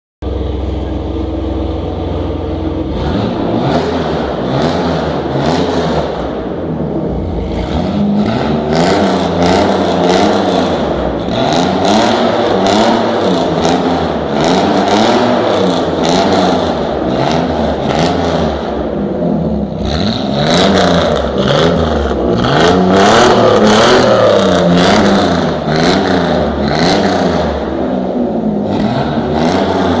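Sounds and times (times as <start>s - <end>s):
car engine revving in blips: 0.2s - 30.0s.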